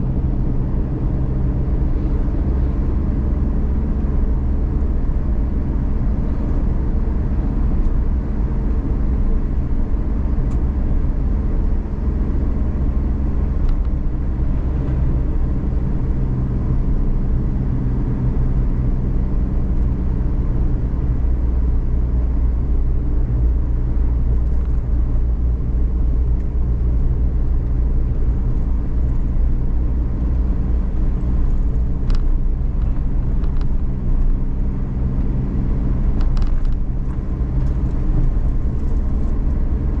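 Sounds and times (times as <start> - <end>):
road rumble: 0.0 - 40.0
van engine drone: 0.0 - 40.0.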